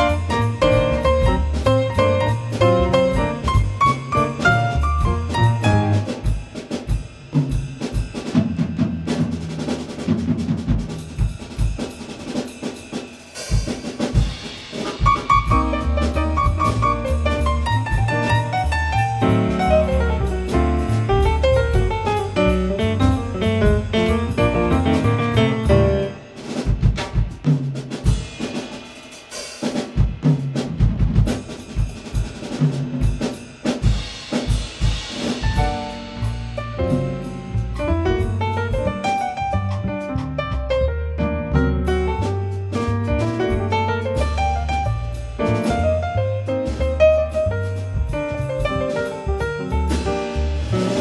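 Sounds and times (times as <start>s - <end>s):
drum kit playing busy rhythm: 0.0s - 51.0s.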